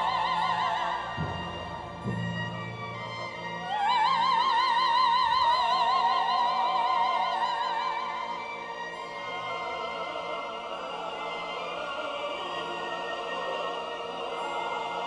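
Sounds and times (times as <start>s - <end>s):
operatic soprano singing: 0.0s - 15.0s.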